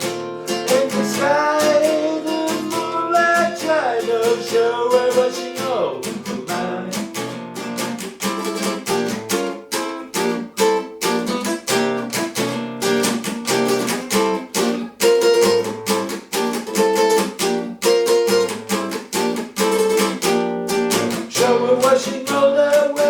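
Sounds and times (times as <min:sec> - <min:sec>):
guitar strumming chords: 0:00.0 - 0:23.0.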